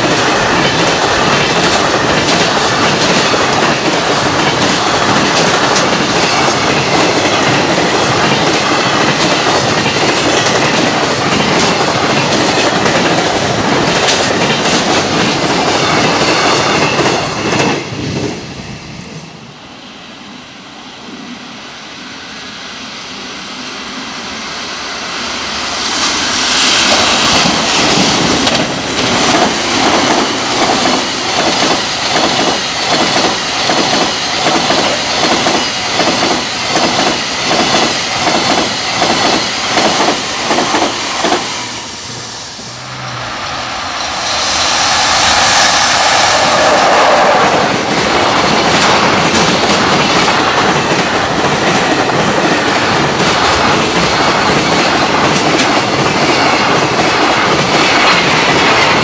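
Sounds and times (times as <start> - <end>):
freight train clattering on rails: 0.0 - 19.3, 24.8 - 59.0.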